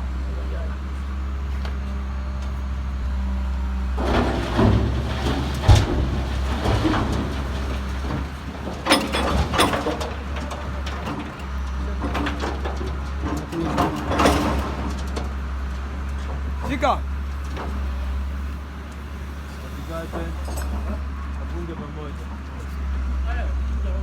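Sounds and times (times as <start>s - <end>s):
heavy vehicle engine humming: 0.0s - 24.0s.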